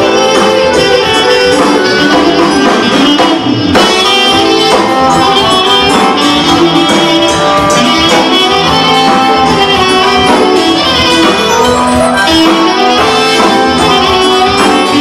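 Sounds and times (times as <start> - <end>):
live band playing folk dance music: 0.0 - 15.0
saxophone melody: 0.0 - 15.0.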